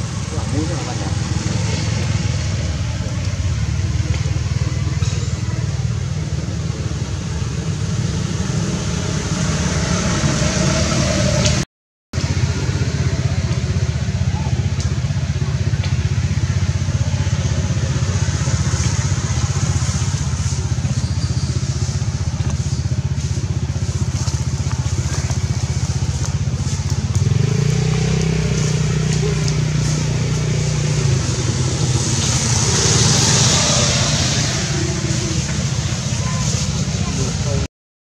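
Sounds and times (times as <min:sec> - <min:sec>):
vehicle engine droning: 0:00.0 - 0:11.6, 0:12.2 - 0:37.7.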